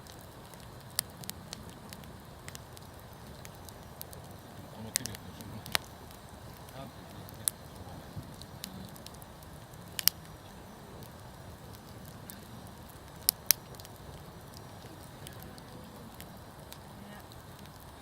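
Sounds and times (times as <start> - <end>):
campfire crackling: 0.0 - 18.0
sharp fire pops: 0.0 - 18.0.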